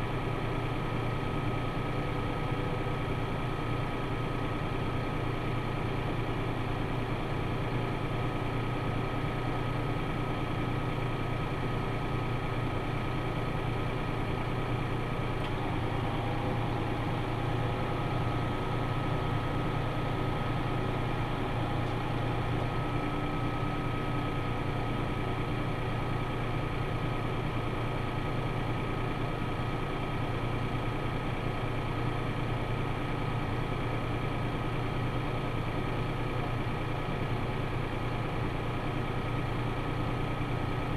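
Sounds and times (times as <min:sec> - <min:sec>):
tractor engine idling: 0:00.0 - 0:40.9.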